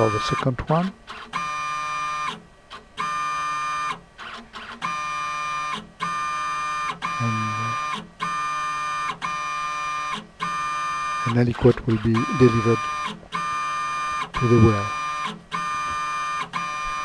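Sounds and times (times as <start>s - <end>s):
motor-driven syringe whining: 1.1s - 17.0s.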